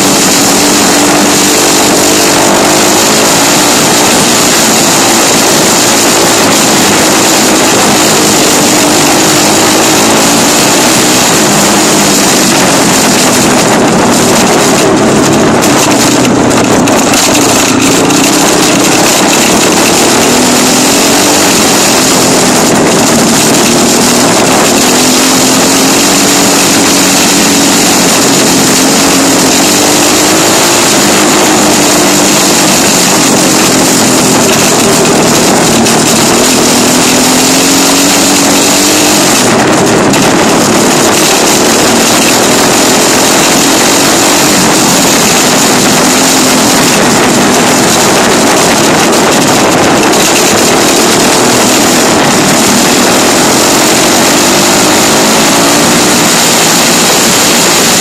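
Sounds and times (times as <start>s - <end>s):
dirt bike engine running: 0.0s - 58.0s
wind noise on microphone: 0.0s - 58.0s.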